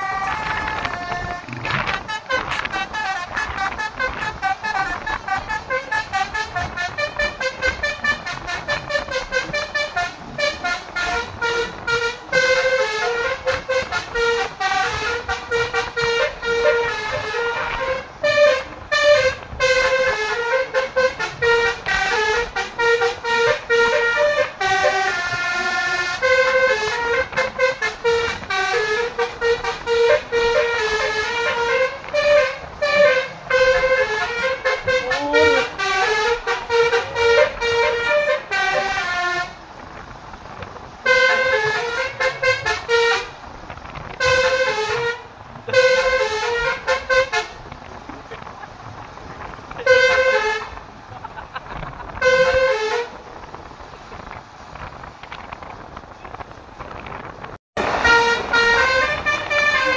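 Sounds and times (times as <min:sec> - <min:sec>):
multi-tone horn playing a melody: 0:00.0 - 0:47.8, 0:49.7 - 0:50.8, 0:52.1 - 0:53.4, 0:57.8 - 0:59.9.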